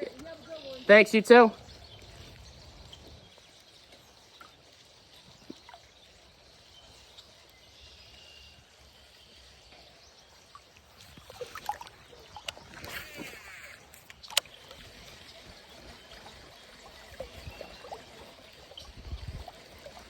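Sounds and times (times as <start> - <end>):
water trickling in creek: 0.0 - 20.0.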